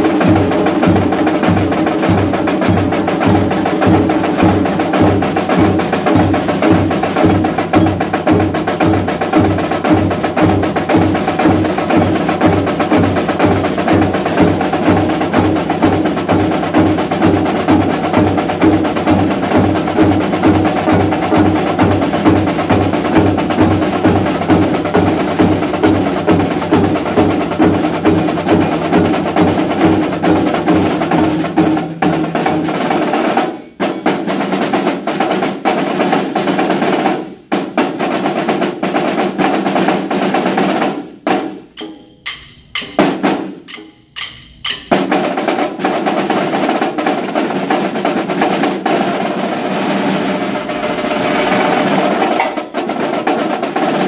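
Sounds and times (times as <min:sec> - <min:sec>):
snare drums playing rhythmically: 0:00.0 - 0:54.0.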